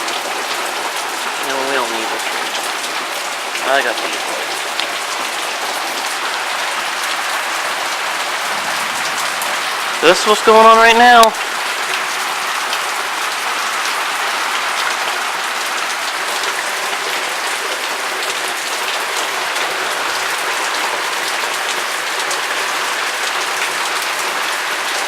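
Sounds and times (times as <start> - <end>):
heavy rain pattering: 0.0 - 25.0.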